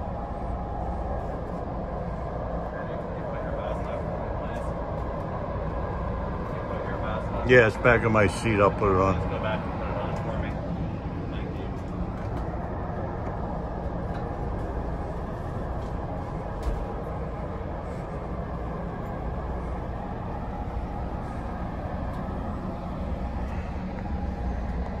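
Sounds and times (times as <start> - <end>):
train coach rumble and hum: 0.0 - 25.0.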